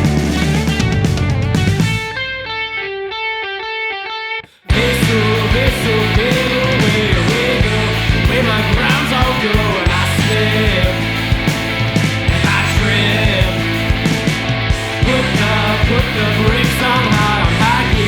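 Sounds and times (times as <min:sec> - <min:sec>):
rock band with distorted guitars: 0:00.0 - 0:18.0.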